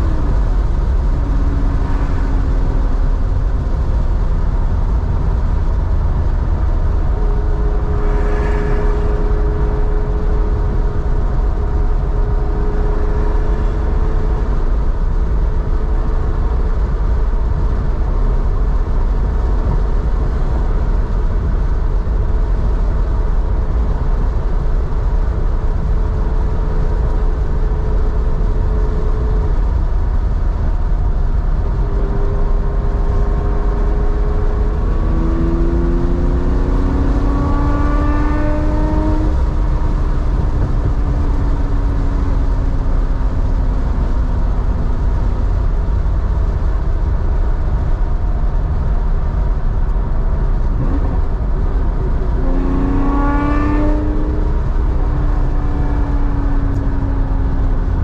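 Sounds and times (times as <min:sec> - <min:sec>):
car exhaust drone accelerating: 0:00.0 - 0:58.0.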